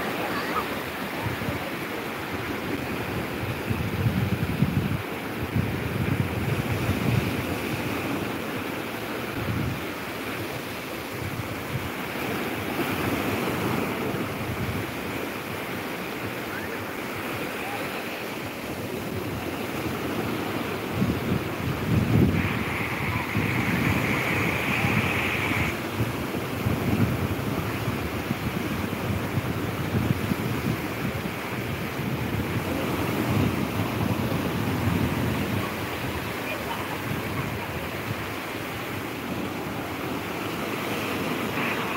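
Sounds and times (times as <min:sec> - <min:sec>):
wind buffeting microphone: 0:00.0 - 0:17.5, 0:18.4 - 0:41.9
surf breaking on beach: 0:00.0 - 0:41.9.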